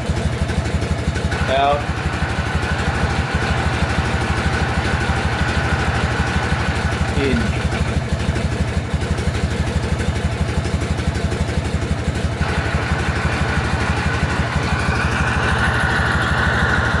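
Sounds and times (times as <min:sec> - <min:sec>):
gearbox whine: 0:00.0 - 0:17.0
motorcycle engine idling: 0:00.0 - 0:17.0.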